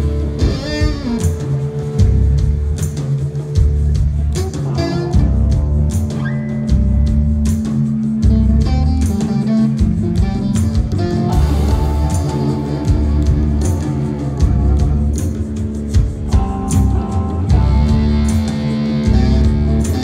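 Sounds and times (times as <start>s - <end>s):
bass guitar: 0.0s - 20.0s
drum kit steady beat: 0.0s - 20.0s
electric guitar: 0.0s - 20.0s.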